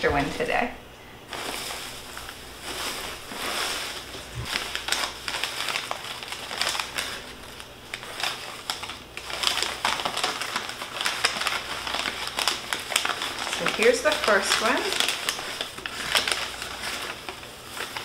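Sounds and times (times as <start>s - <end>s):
paper rustling and crinkling: 1.3s - 18.0s.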